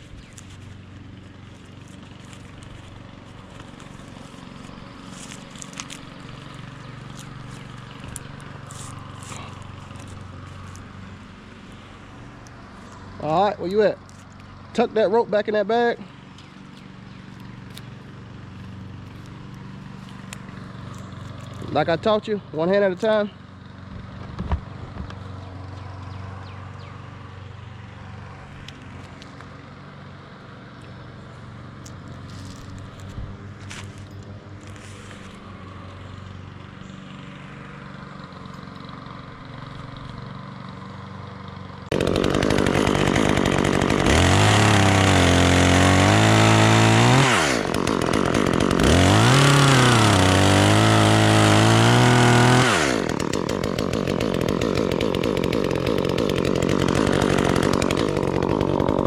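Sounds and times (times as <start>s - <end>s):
chainsaw cutting wood: 0.0s - 26.1s, 36.3s - 59.0s.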